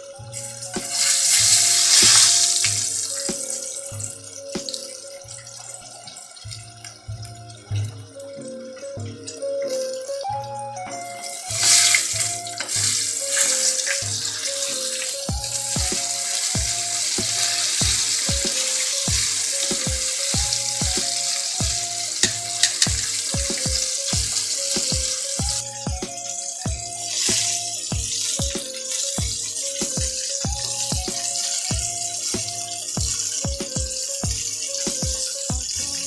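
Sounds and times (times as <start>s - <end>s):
background music with beat: 0.0s - 36.0s
fish sizzling in hot oil: 0.4s - 6.9s, 11.1s - 36.0s.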